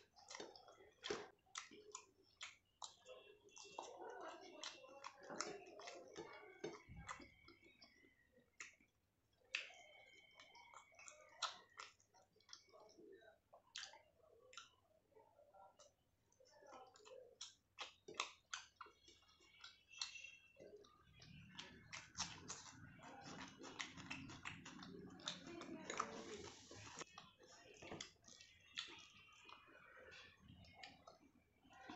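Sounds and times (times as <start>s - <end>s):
person chewing food: 0.0s - 31.9s.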